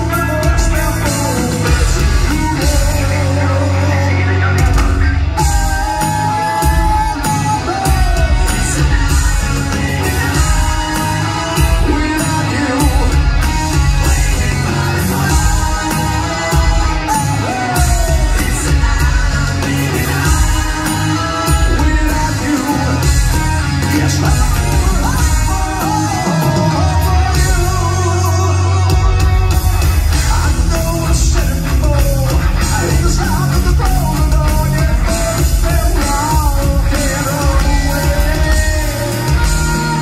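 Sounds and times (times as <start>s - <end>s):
live rock band playing: 0.0s - 40.0s
man singing: 0.0s - 40.0s.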